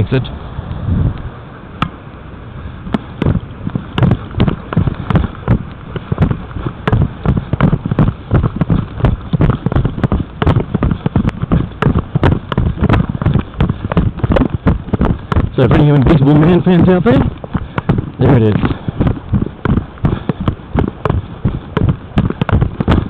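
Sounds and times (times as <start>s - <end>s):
footsteps on grass: 2.9s - 23.0s.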